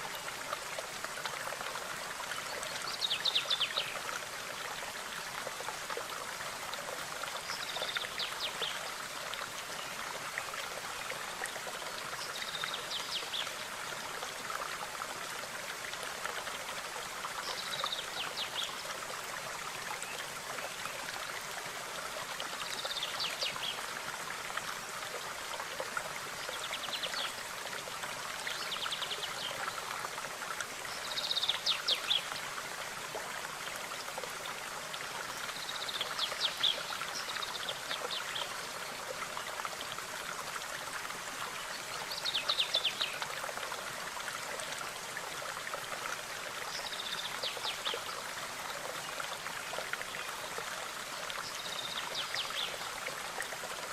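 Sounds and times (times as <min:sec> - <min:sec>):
stream running: 0:00.0 - 0:53.9.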